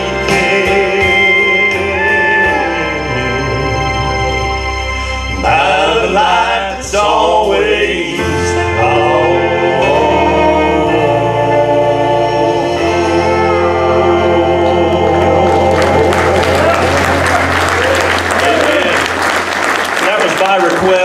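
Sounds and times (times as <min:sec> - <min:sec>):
men singing in harmony: 0:00.0 - 0:18.7
instrumental accompaniment: 0:00.0 - 0:21.0.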